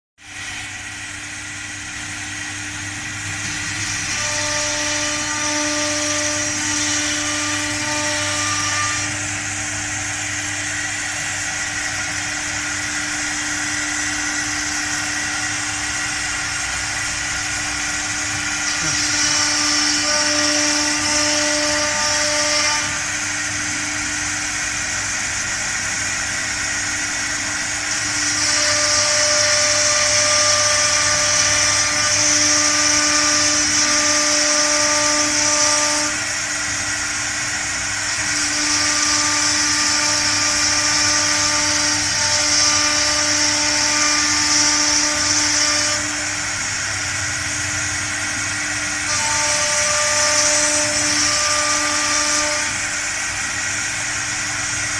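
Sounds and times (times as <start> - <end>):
router spindle whining: 0.2 - 54.9.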